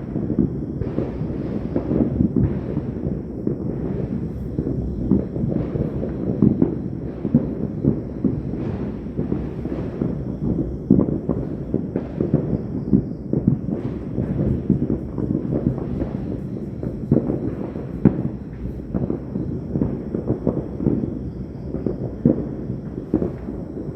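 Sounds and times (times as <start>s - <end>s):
fireworks and firecrackers banging: 0.0s - 23.9s.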